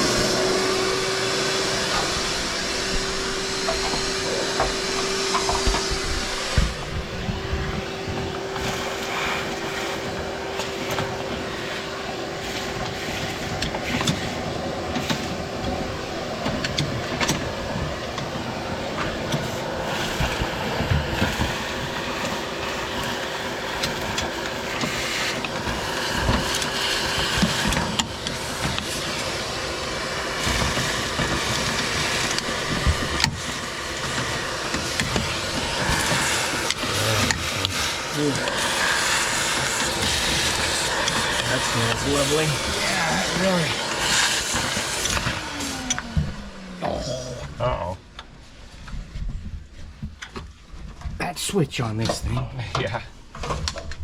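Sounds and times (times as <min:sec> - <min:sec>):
shop vacuum humming: 0:00.0 - 0:48.9.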